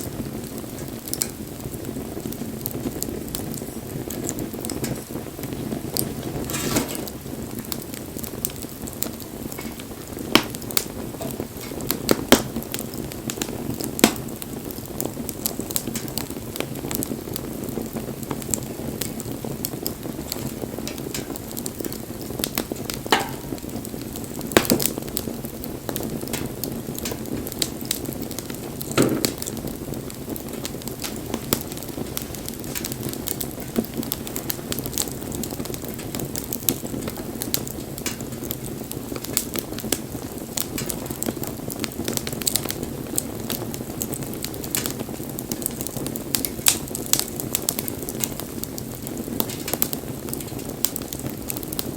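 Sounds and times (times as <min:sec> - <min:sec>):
bonfire flames hissing: 0:00.0 - 0:51.9
fire crackling pops: 0:00.0 - 0:51.9.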